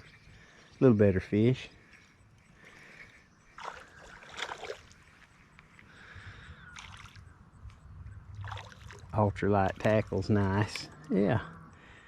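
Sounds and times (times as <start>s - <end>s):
faint water splashing: 0.0s - 7.3s, 8.3s - 11.2s.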